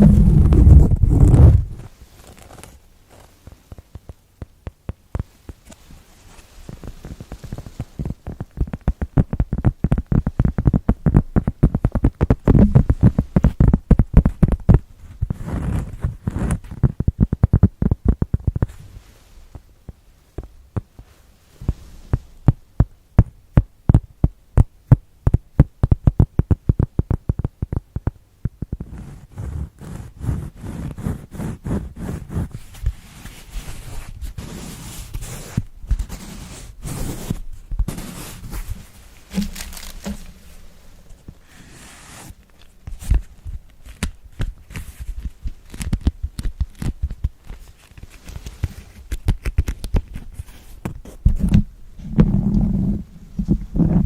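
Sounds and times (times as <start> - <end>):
fingertips tapping: 0.0 - 18.8, 19.5 - 51.6.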